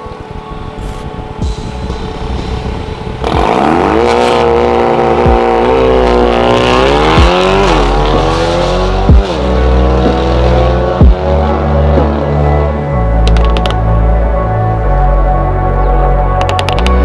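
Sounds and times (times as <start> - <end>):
car engine accelerating: 1.4 - 17.0.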